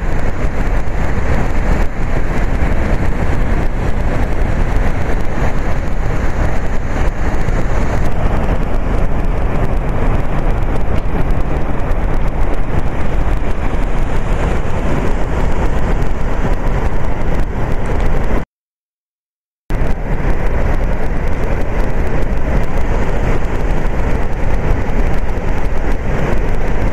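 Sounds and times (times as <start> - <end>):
waterfall rushing with deep rumble: 0.0 - 18.5, 19.7 - 26.9.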